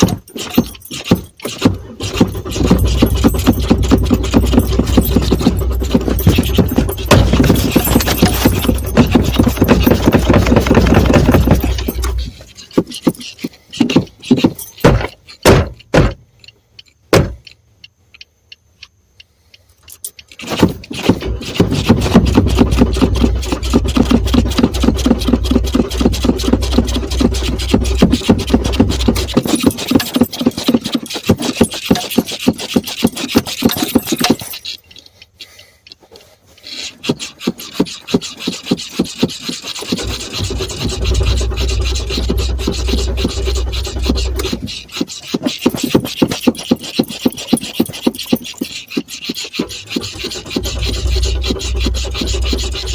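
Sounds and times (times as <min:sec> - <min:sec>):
car engine cranking: 0:00.0 - 0:17.6, 0:19.8 - 0:52.9.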